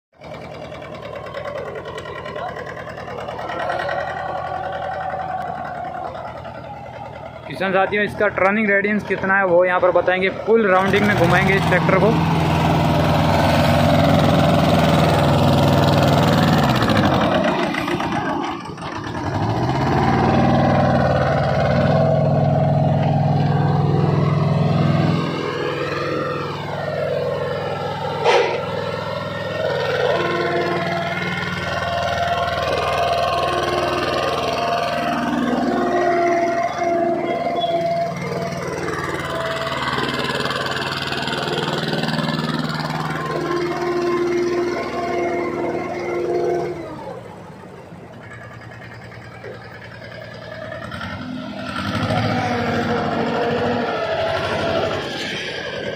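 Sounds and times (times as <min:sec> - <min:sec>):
tractor diesel engine running: 0:00.1 - 0:55.9.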